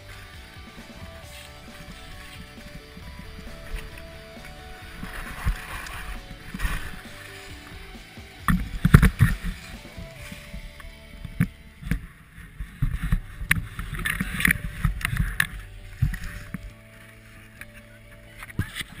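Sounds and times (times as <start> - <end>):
skis scraping over snow: 0.0 - 19.0.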